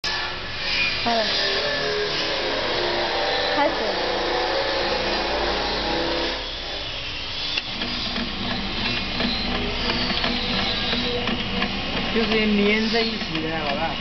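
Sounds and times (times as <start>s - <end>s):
machine hum and rattle: 0.0s - 14.0s.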